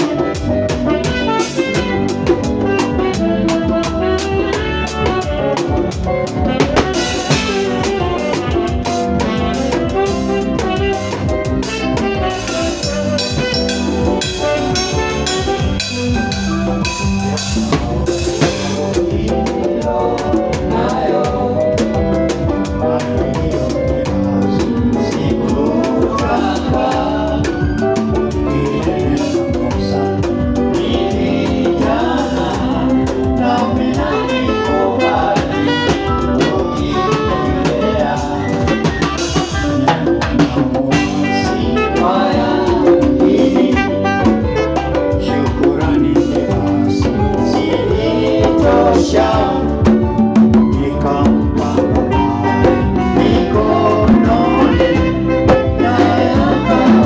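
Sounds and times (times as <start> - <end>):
drum kit with cymbals: 0.0 - 57.0
electric bass: 0.0 - 57.0
people singing into microphones: 0.0 - 57.0.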